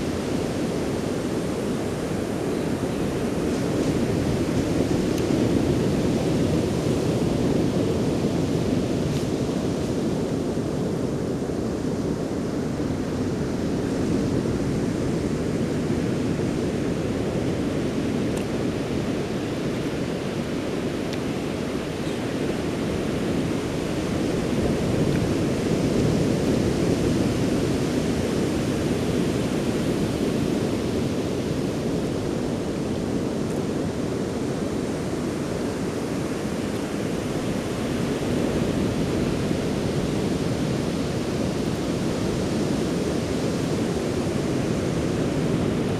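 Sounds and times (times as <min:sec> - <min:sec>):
ocean surf breaking on shore: 0:00.0 - 0:45.9.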